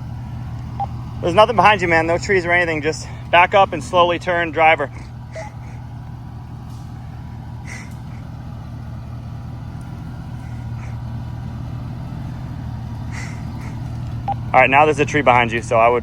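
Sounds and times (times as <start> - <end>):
truck engine running at low revs: 0.0 - 16.0.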